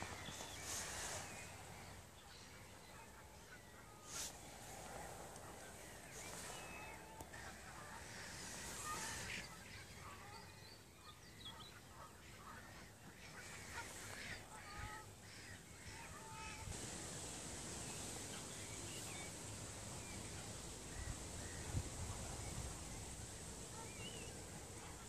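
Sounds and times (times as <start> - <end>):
steady hiss: 0.0 - 10.1, 12.0 - 25.0
gulls calling: 0.0 - 25.0.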